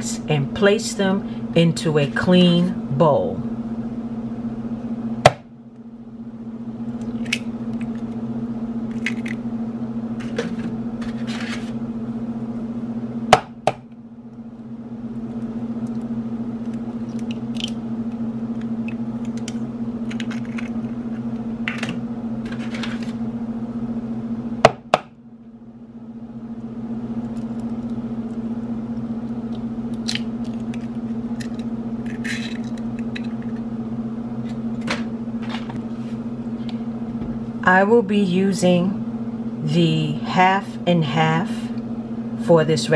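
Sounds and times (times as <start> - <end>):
low hum: 0.0 - 42.9.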